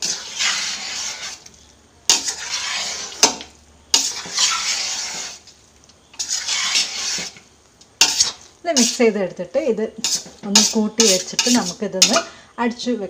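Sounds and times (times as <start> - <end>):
spatula scraping rice in pot: 0.0 - 9.1, 10.0 - 12.3.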